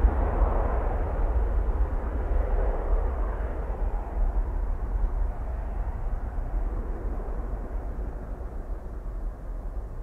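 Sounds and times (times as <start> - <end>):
jet engines at high power: 0.0 - 10.0
wind buffeting microphone: 0.0 - 10.0.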